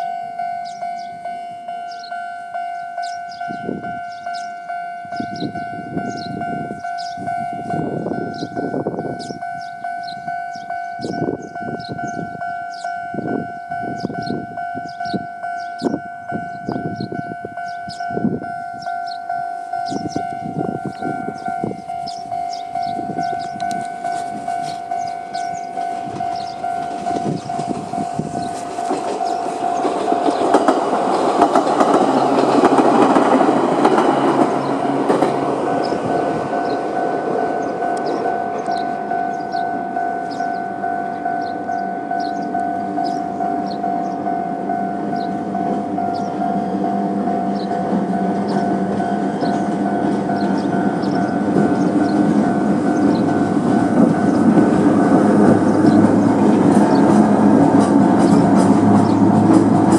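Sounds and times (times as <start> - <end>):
level crossing alarm ringing: 0.0 - 59.9
train wheels rumbling on rails: 0.0 - 59.9.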